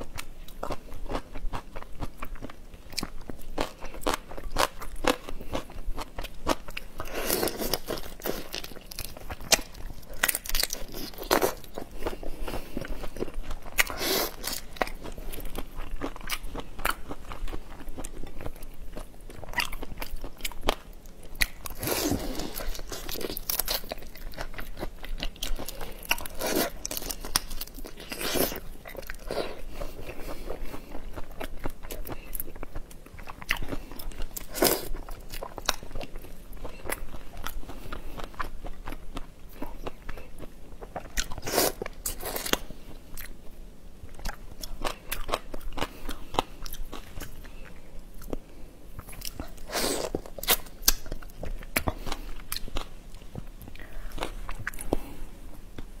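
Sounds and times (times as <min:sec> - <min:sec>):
crunchy chewing: 0:00.0 - 0:43.4, 0:44.1 - 0:55.9.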